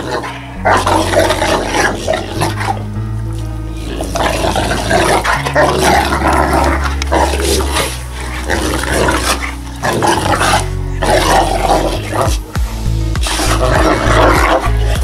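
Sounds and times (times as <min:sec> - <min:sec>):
dog growling: 0:00.0 - 0:02.9, 0:03.7 - 0:12.5, 0:13.2 - 0:15.0.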